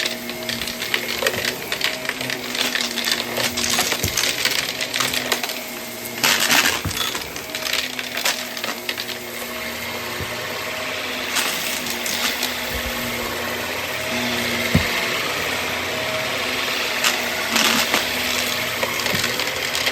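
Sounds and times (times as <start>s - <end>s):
debris rattling through vacuum: 0.0s - 19.9s
vacuum cleaner running: 0.0s - 19.9s.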